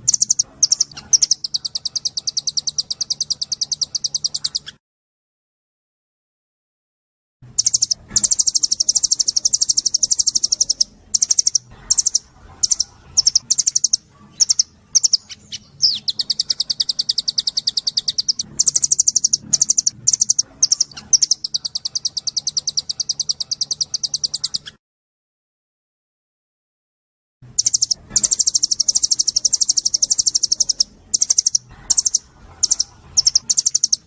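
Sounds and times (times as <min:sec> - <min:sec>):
songbird trilling: 0:00.0 - 0:04.8, 0:07.6 - 0:24.8, 0:27.6 - 0:34.0.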